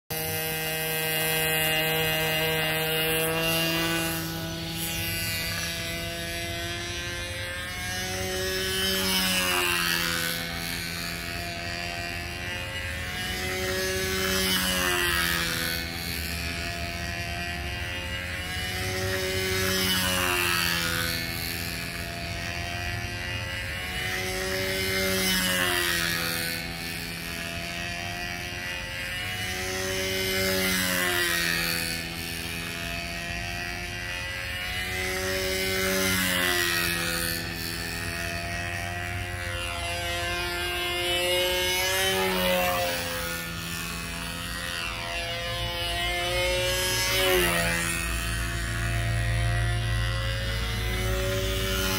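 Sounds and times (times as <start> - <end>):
model plane engine circling: 0.0 - 51.9.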